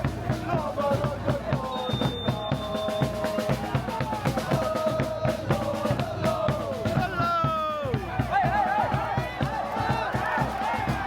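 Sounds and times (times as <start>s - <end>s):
drum-kit beat: 0.0s - 11.0s.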